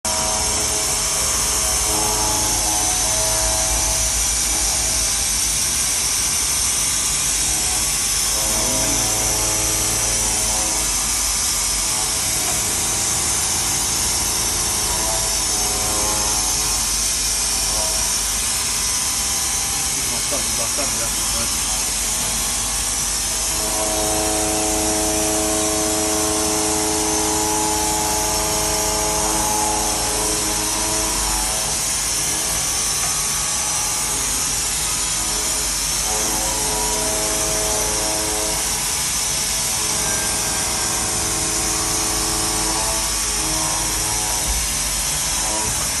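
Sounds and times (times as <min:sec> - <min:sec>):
milling machine hiss: 0:00.1 - 0:46.0.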